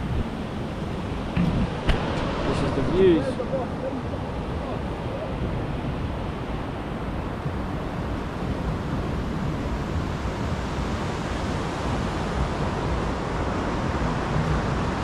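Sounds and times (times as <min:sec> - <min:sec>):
sea surf: 0:00.0 - 0:15.0
wind rumbling on microphone: 0:00.0 - 0:15.0.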